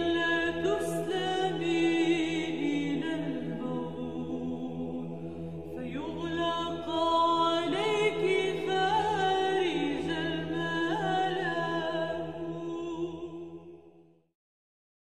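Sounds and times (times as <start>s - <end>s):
voices singing chant-like notes: 0.0s - 13.8s.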